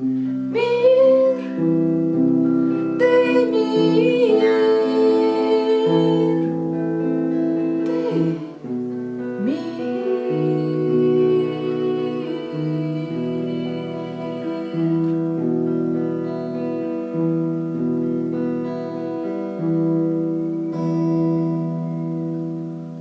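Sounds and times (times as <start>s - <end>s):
acoustic guitar chords: 0.0s - 23.0s.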